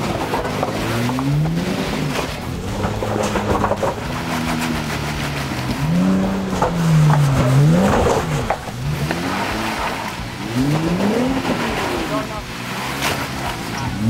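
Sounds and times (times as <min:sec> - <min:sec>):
tyres spinning on rock: 0:00.0 - 0:12.3
clicks and knocks from tyres: 0:00.0 - 0:14.0
engine revving under load: 0:00.0 - 0:14.0.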